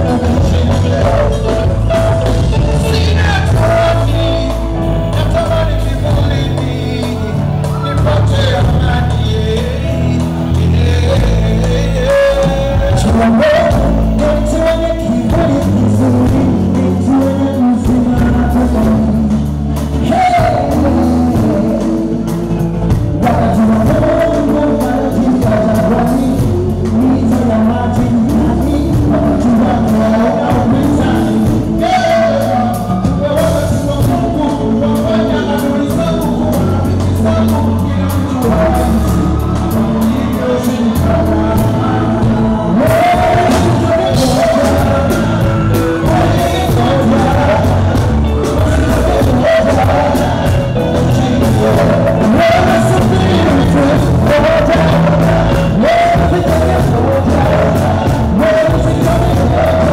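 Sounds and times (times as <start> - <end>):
backing vocalists singing: 0.0 - 59.9
bass line: 0.0 - 59.9
gospel band playing: 0.0 - 59.9
men singing lead vocals: 0.0 - 59.9.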